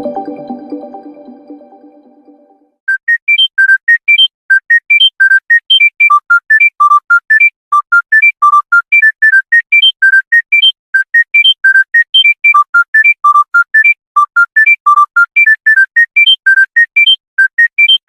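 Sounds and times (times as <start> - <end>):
phone ringtone beeps: 0.0 - 18.0.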